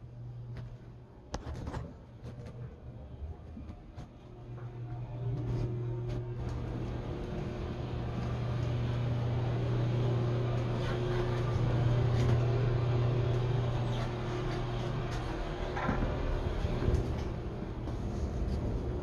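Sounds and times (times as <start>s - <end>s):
low droning hum: 0.0s - 19.0s.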